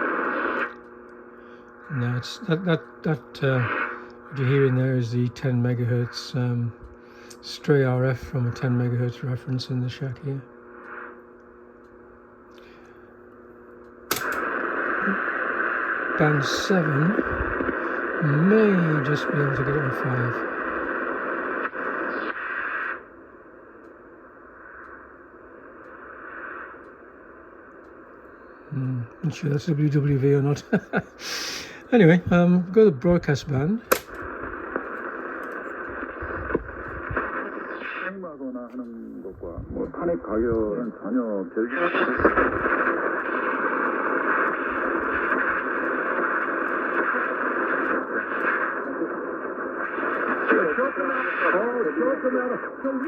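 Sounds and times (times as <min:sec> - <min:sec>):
radio shortwave static hiss: 0:00.0 - 0:53.0.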